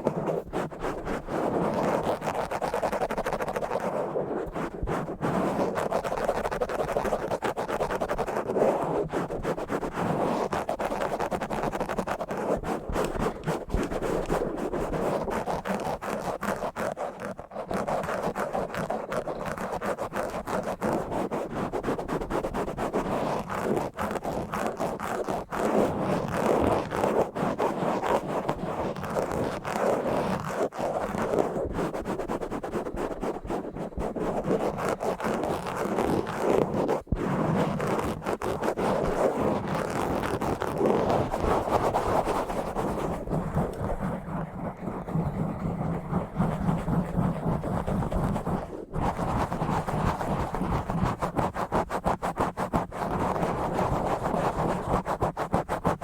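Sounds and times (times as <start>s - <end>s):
scratching on a microphone: 0.0s - 56.0s.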